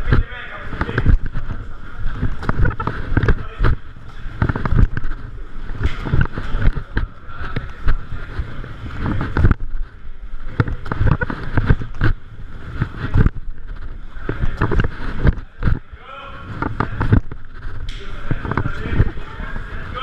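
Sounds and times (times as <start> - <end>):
camera rustling and bumping: 0.0 - 19.6.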